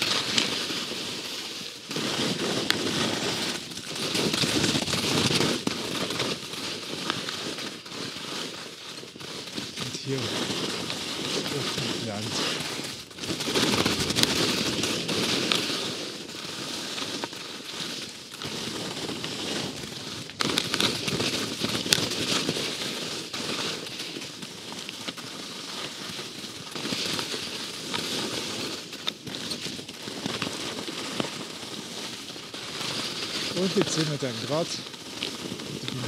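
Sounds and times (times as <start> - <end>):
skis scraping over hard snow: 0.0 - 36.0.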